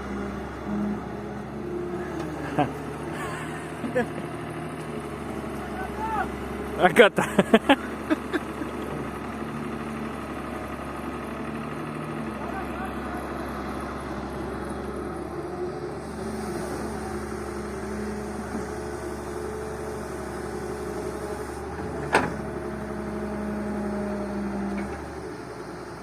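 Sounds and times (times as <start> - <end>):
excavator diesel engine working: 0.0 - 26.0.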